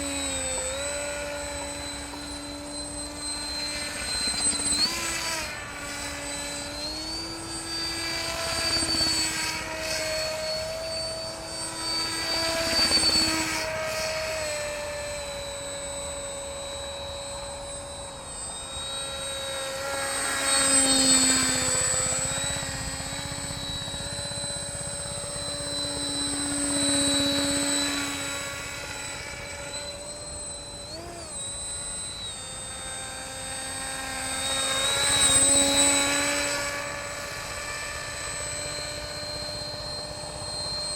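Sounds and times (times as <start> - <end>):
model aircraft motor and propeller drone: 0.0 - 40.9.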